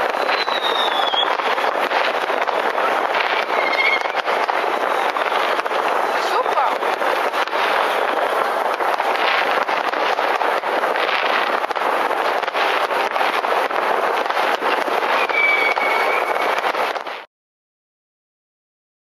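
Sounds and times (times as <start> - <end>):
firework whistle: 0.0 - 17.3
fireworks crackling and banging: 0.0 - 17.3.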